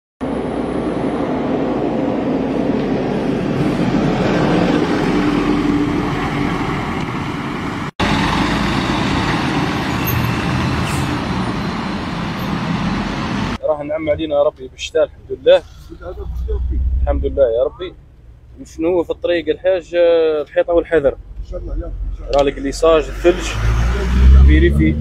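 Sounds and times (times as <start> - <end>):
tyre and road noise: 0.2 - 25.0
vehicle engines passing: 0.2 - 25.0.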